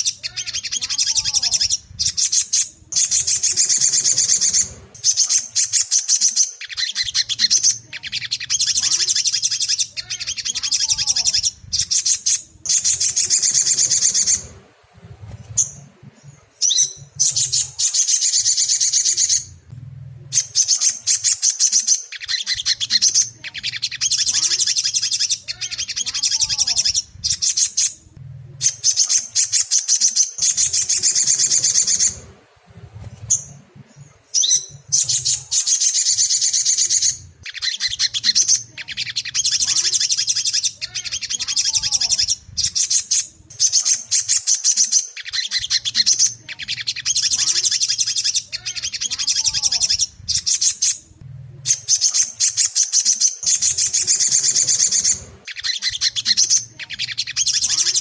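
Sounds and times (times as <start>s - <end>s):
bird chattering trills: 0.0s - 58.0s.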